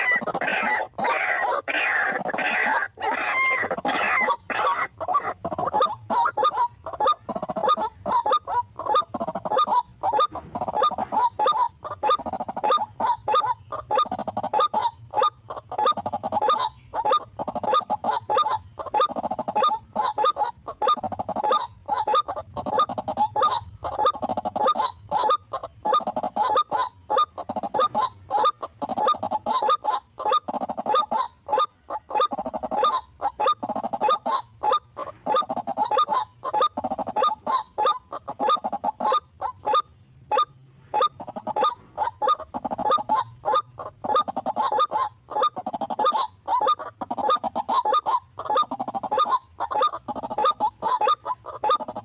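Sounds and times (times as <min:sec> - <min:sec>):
waterhens calling: 0:00.0 - 0:52.0.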